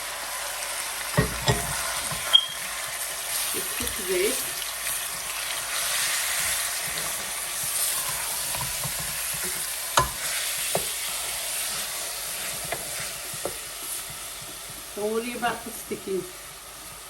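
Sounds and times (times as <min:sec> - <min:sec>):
mince sizzling in a pan: 0:00.0 - 0:17.0.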